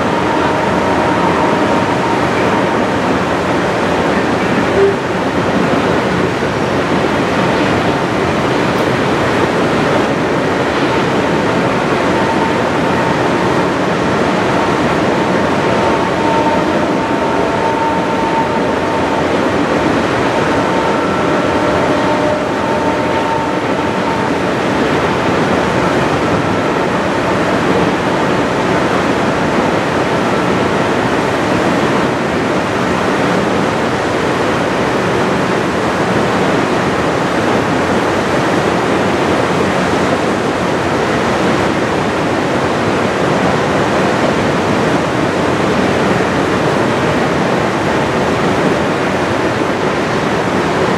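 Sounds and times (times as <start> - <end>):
fast river rushing: 0.0 - 50.9
freight train rumbling: 0.0 - 50.9.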